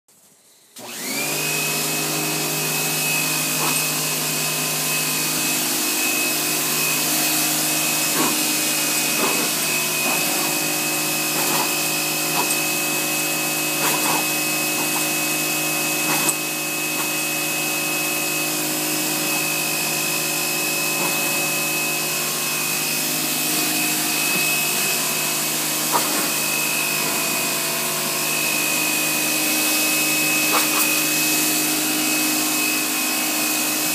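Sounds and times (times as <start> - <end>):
pressure washer motor whine: 0.3 - 33.9
water jet hissing on concrete: 0.9 - 33.9.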